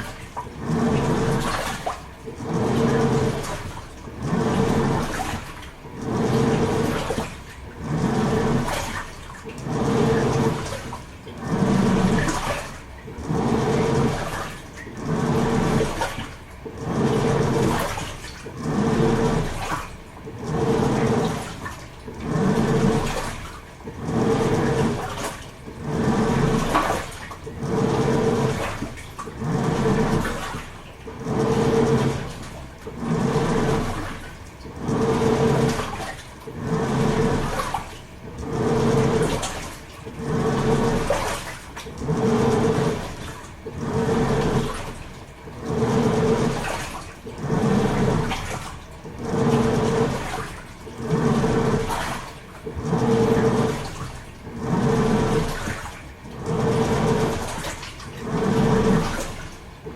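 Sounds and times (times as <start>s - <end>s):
washing machine motor hum: 0.0s - 59.9s
washing machine water churning: 0.0s - 59.9s.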